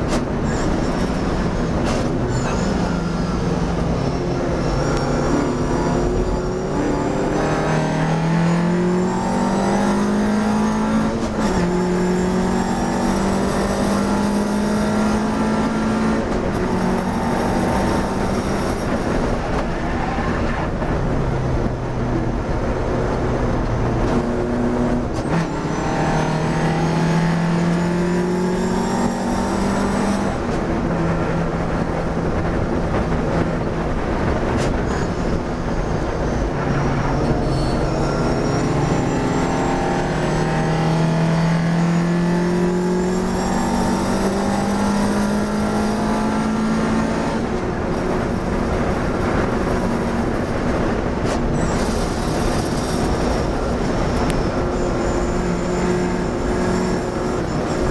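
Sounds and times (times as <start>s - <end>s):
racing car engine revving: 0.0s - 21.8s, 22.5s - 35.5s, 36.4s - 57.9s
wind and road noise: 0.0s - 57.9s.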